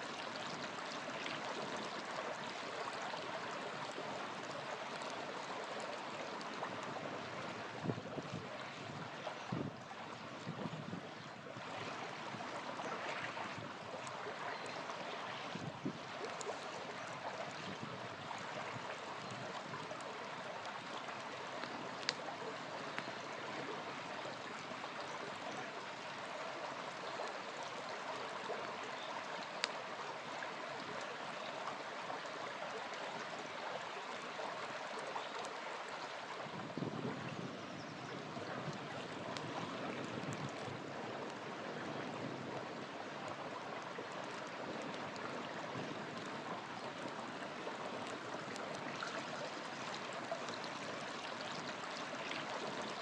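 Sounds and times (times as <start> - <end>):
river flowing: 0.0 - 53.0
campfire crackling: 0.1 - 9.1, 10.9 - 36.4, 38.4 - 53.0.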